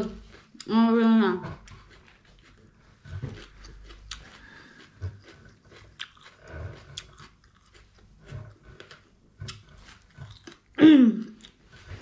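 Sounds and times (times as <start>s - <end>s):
person chewing crunchy pepper: 0.0s - 0.8s, 1.4s - 12.0s.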